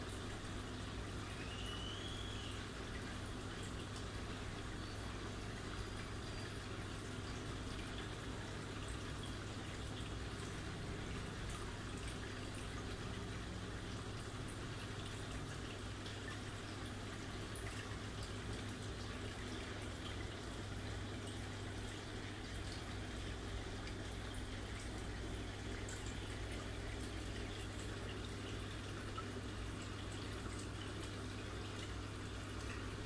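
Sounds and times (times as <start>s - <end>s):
faint trickling water: 0.0s - 33.0s.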